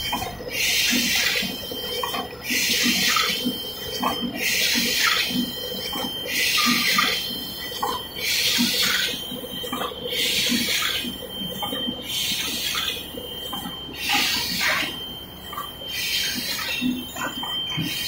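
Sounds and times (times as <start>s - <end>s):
faint machine whine: 0.0s - 18.0s.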